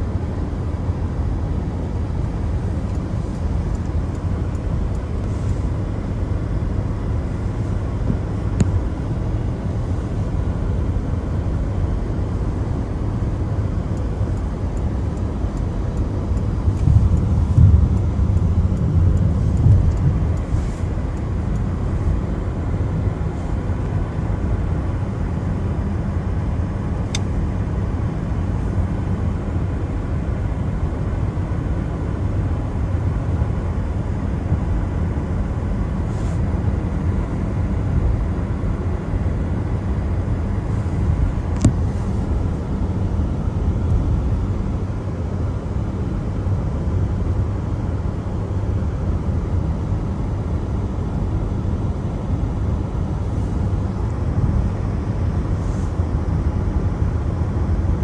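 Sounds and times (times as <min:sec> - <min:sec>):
car tyres on wet road: 0:00.2 - 0:31.9, 0:35.4 - 0:45.4, 0:52.4 - 0:57.1.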